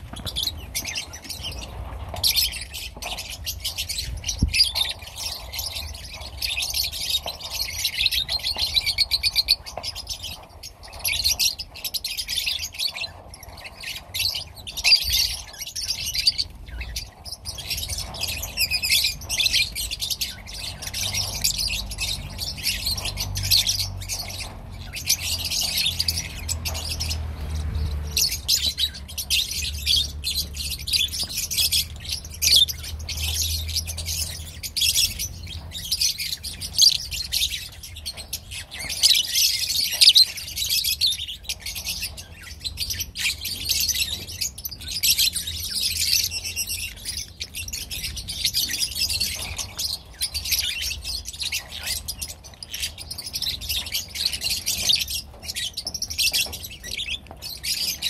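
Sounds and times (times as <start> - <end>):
lovebirds chirping and squawking: 0.0 - 58.0.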